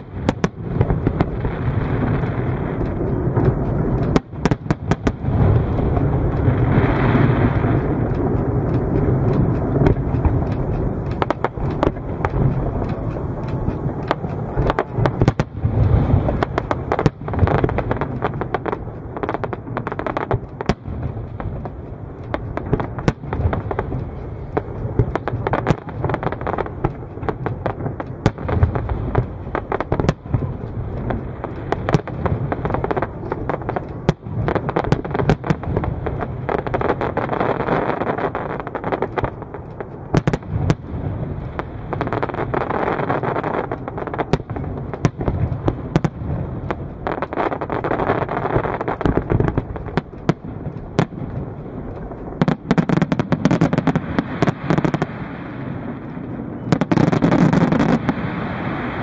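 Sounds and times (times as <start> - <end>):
continuous low-pitched din: 0.0 - 58.2
fireworks bangs: 0.0 - 59.0.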